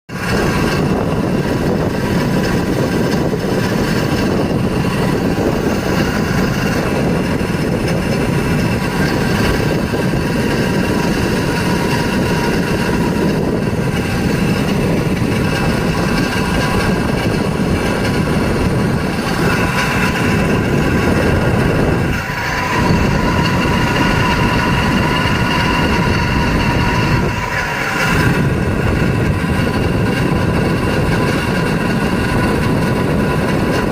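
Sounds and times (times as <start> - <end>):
air conditioner fan rushing: 0.1 - 33.9
whining fan motor tones: 0.1 - 33.9.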